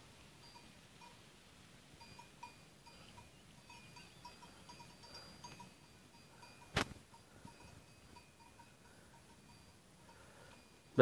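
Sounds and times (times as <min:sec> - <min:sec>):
distant goat bells clinking: 0:00.0 - 0:11.0.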